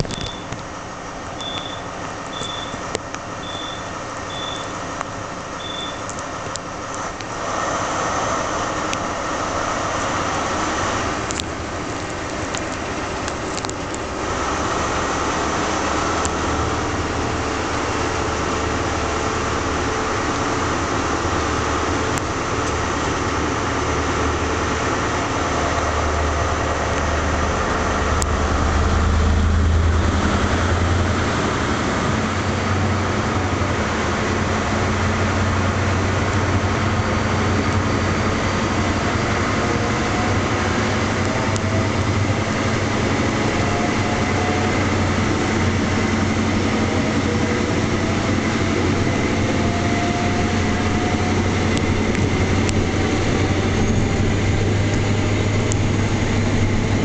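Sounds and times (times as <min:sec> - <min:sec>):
diesel engine deep hum: 0:00.0 - 0:57.0.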